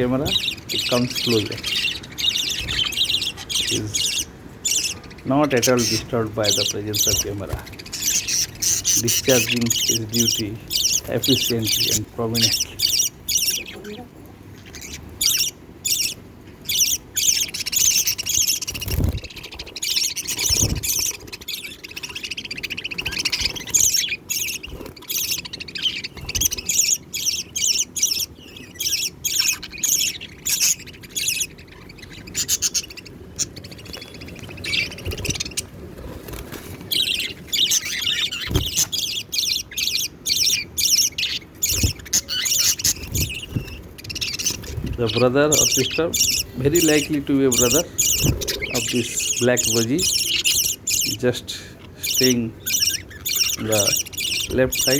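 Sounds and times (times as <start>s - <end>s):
budgies chirping and squawking: 0.0s - 54.9s.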